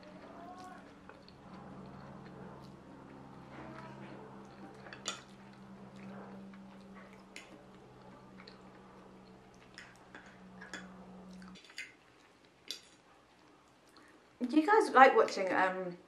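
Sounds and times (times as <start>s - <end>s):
chewing and slurping: 0.0s - 14.4s
steady low hum: 0.0s - 14.4s.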